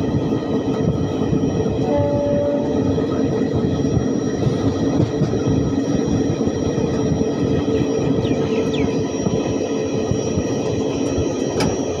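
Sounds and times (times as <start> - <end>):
droning hum: 0.0 - 12.0
train wheels rumbling on rails: 0.0 - 12.0.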